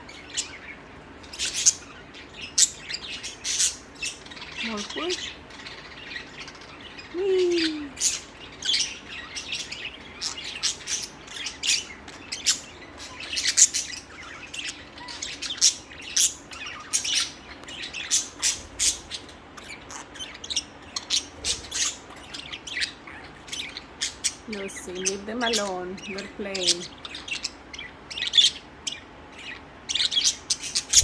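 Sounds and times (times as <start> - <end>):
budgerigars chattering: 0.0 - 31.0.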